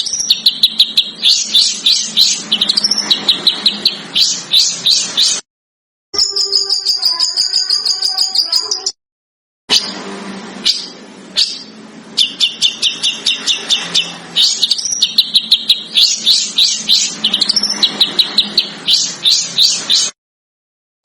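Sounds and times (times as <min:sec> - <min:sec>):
songbird rapid high chirps: 0:00.0 - 0:05.4, 0:06.2 - 0:09.0, 0:10.6 - 0:20.2.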